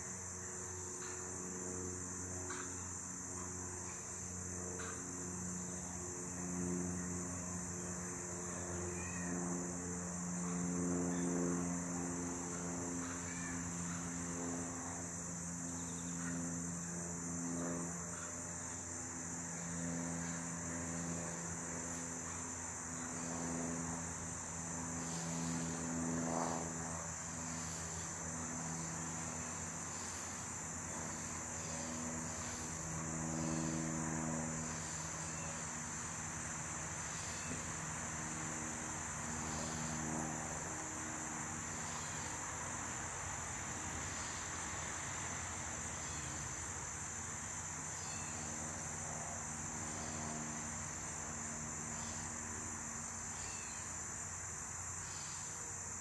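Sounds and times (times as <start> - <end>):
steady high-pitched whine: 0.0 - 56.0
honeybees buzzing in flight: 0.2 - 56.0.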